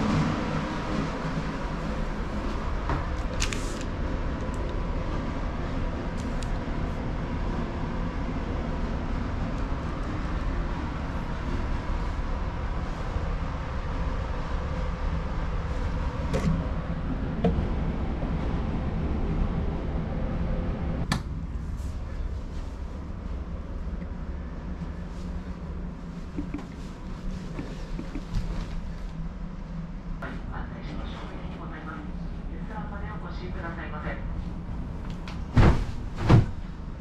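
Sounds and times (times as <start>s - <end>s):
ferry machinery drone: 0.0s - 37.0s.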